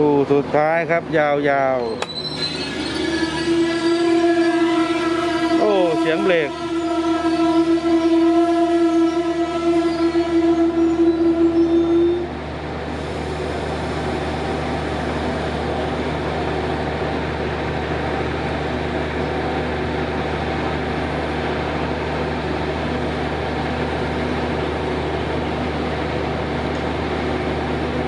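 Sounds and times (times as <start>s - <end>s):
train coaches rumbling past: 0.0s - 28.0s.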